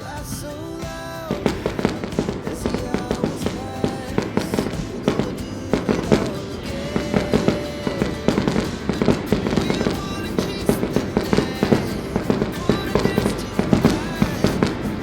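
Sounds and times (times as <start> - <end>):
music playing: 0.0 - 15.0
fireworks cracking and popping: 1.2 - 15.0.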